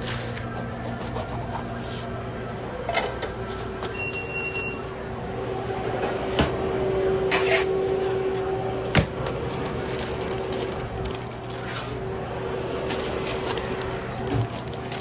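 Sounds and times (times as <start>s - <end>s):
oven fan humming: 0.0s - 15.0s.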